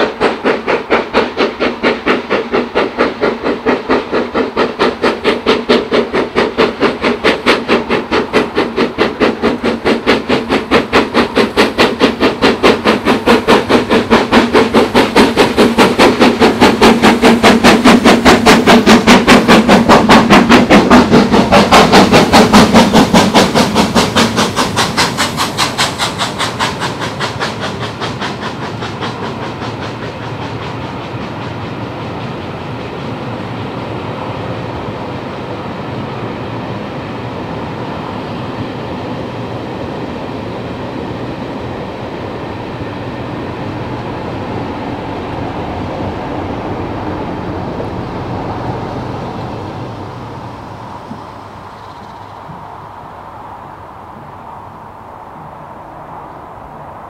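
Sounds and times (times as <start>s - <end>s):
steam locomotive exhaust beat: 0.0s - 55.8s.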